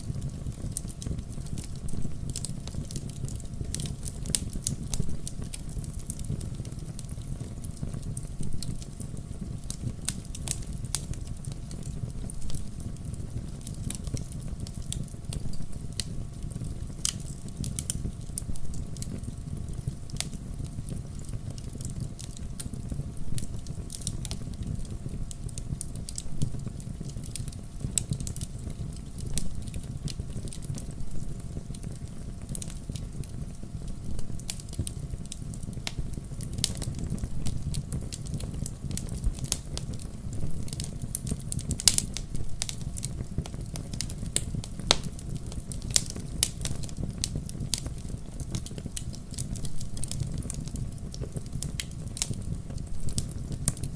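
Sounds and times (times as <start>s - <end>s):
fireplace fire crackling: 0.0s - 53.9s
sharp pops of fire: 0.1s - 53.9s.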